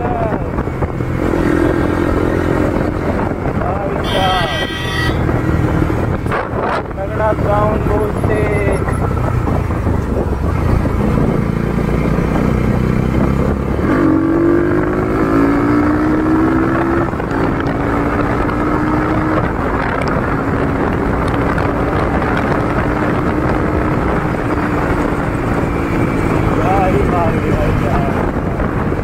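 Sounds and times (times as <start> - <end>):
motorcycle engine with deep note: 0.0 - 29.0.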